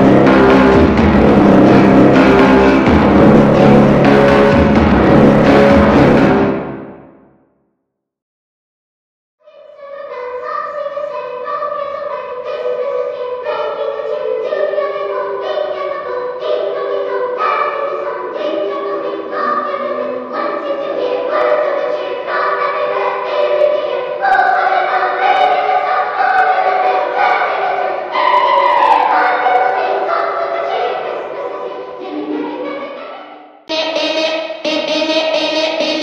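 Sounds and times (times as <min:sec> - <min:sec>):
choir singing held notes: 0:00.0 - 0:07.0, 0:13.4 - 0:33.0, 0:33.7 - 0:36.0.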